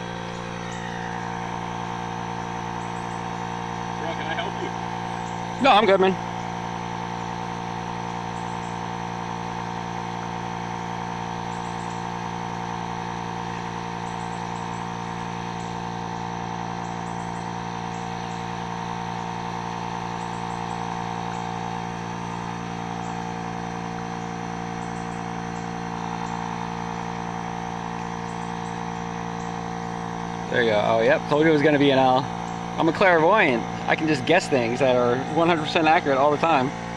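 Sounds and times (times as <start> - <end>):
electric air pump droning: 0.0 - 36.9.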